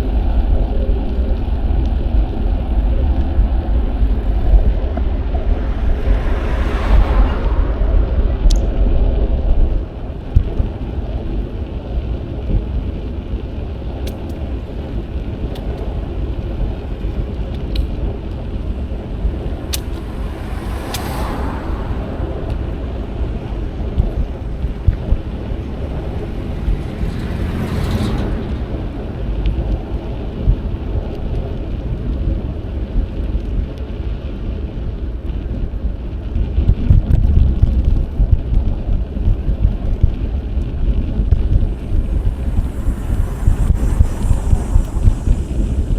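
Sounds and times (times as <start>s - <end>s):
vehicles passing: 0.0s - 45.9s
wind rumble on microphone: 0.0s - 45.9s.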